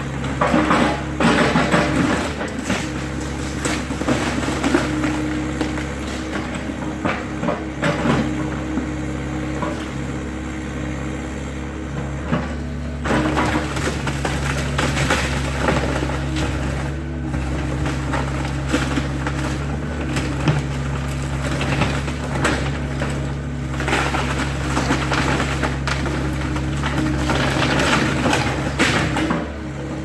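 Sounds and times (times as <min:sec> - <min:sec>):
diesel engine running: 0:00.0 - 0:30.0
wood crackling and splintering: 0:00.1 - 0:08.0, 0:12.8 - 0:29.6.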